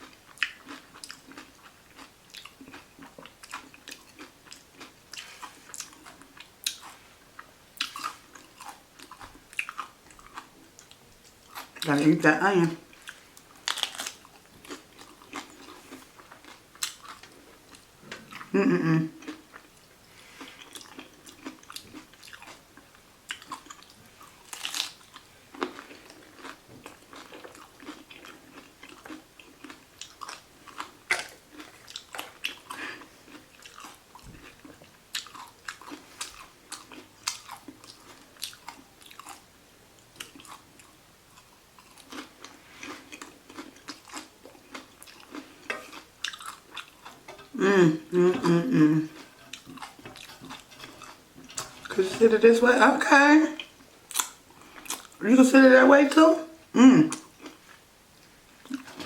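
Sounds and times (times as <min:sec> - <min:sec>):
person chewing crunchy food: 0:00.0 - 0:52.1, 0:53.6 - 0:55.2, 0:56.7 - 0:59.0.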